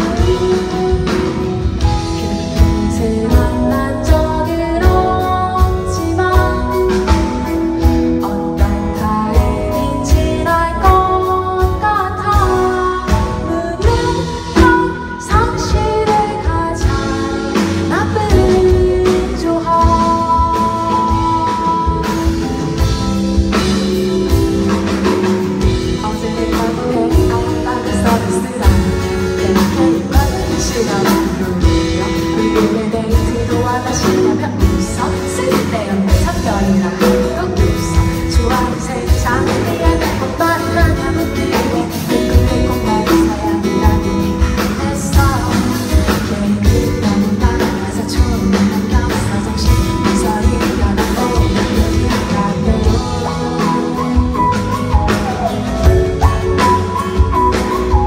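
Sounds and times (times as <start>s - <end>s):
bass guitar: 0.0s - 58.0s
drum kit beat: 0.0s - 58.0s
electric guitar: 0.0s - 58.0s
woman singing: 0.0s - 58.0s.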